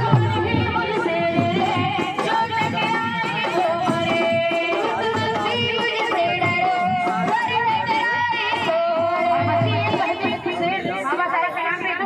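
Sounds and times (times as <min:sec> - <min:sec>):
instrumental accompaniment: 0:00.0 - 0:12.0
woman singing devotional song: 0:00.0 - 0:12.0.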